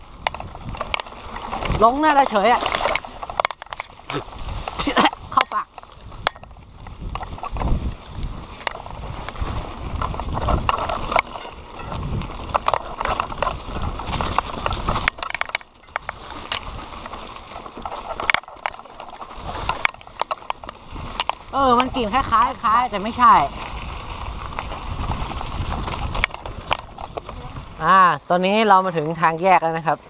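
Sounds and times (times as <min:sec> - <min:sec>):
bike rattling and knocking: 0:00.0 - 0:29.9.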